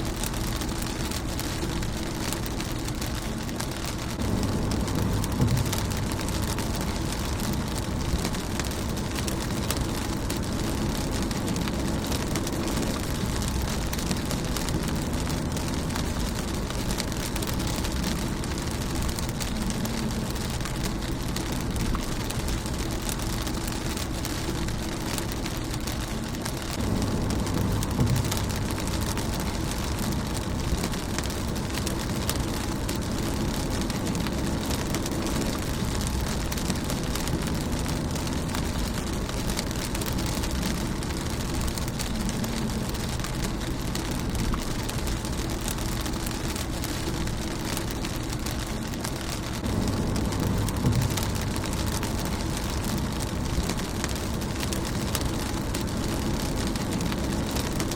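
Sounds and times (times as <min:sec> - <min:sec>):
low rumble: 0:00.0 - 0:57.9
rain pattering on windshield: 0:00.0 - 0:57.9.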